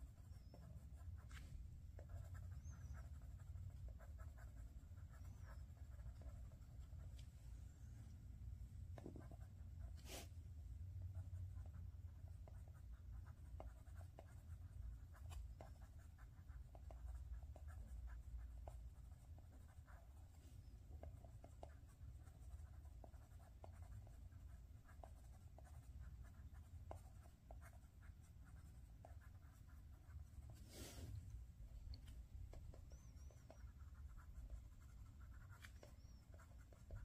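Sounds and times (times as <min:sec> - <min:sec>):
pencil scratching on paper: 0:00.0 - 0:07.2, 0:09.0 - 0:10.4, 0:11.0 - 0:31.0, 0:32.0 - 0:37.0.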